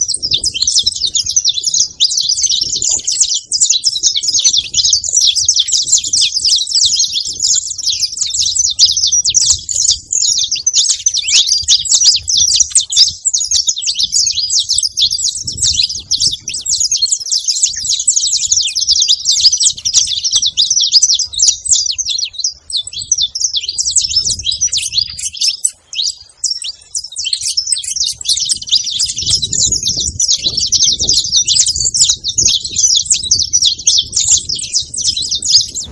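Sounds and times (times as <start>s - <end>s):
finch singing chirps and trills: 0.0s - 35.9s.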